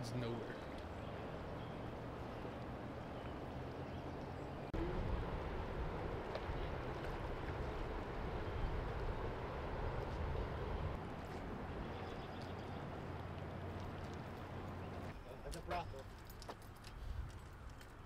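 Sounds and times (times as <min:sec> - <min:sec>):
low uneven rumble: 0:00.4 - 0:15.3.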